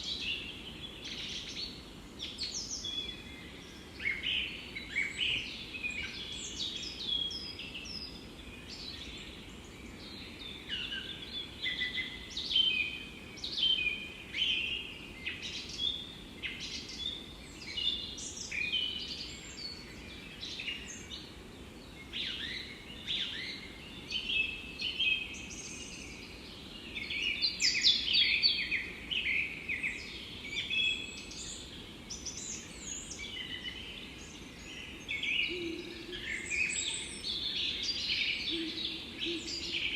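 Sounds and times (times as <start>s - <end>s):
low background hiss: 0.0s - 39.9s
songbirds singing and chirping: 0.0s - 39.9s.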